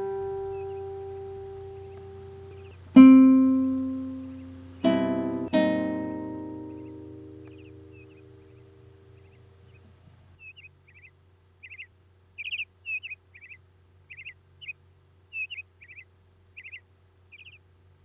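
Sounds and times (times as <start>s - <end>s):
low steady hum: 0.0s - 18.0s
songbird chirping: 0.0s - 18.0s.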